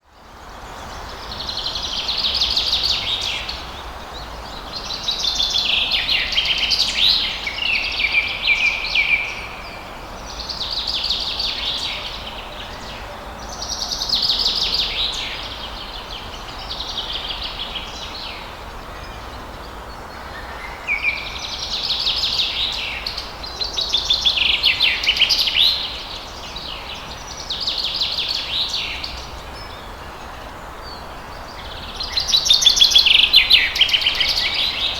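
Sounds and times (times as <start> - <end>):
songbirds trilling: 0.0 - 34.9.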